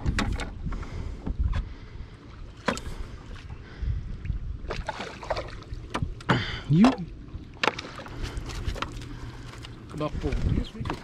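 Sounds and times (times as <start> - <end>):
wind rumble on microphone: 0.0 - 6.3, 8.2 - 11.0
water lapping against boat: 0.0 - 11.0.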